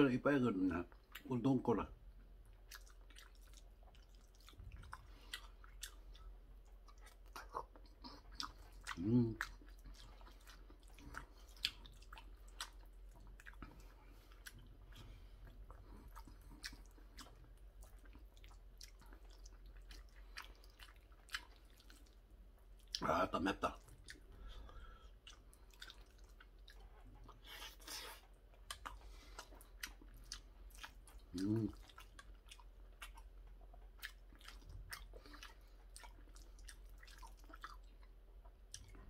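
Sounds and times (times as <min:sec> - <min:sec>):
man chewing with mouth smacks: 0:00.9 - 0:01.4, 0:02.0 - 0:39.0.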